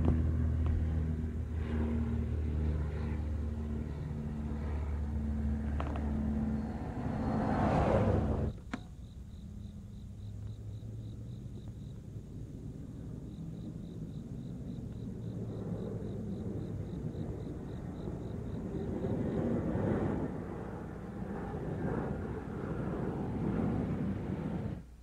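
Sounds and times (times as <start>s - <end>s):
road traffic rumble: 0.0s - 25.0s
insect chirping: 0.1s - 23.3s.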